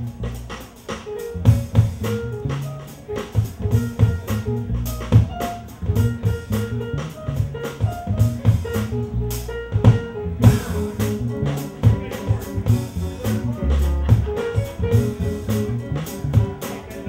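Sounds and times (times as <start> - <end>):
drum kit groove: 0.0 - 17.0
electric keyboard chords: 0.0 - 17.0
electric upright bass line: 0.0 - 17.0.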